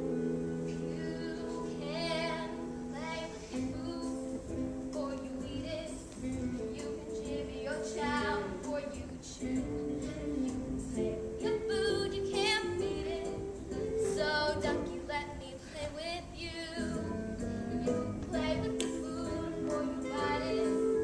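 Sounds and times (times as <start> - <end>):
instrumental accompaniment: 0.0 - 15.4, 16.8 - 21.0.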